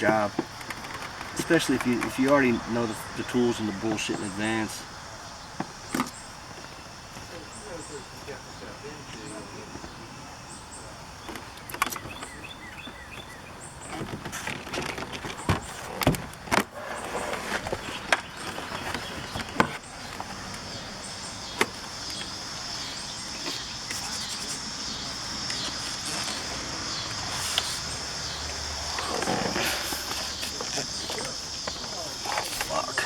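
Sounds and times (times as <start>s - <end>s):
high insect chirping: 0.0s - 33.0s.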